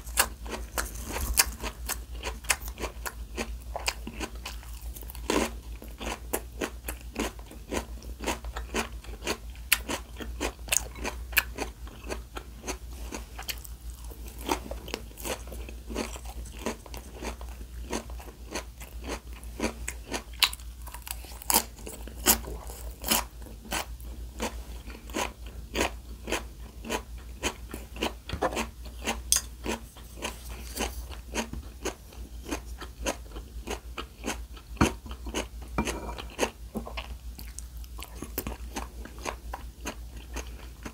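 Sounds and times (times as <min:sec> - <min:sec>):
crunching and chewing food: 0:00.0 - 0:40.9.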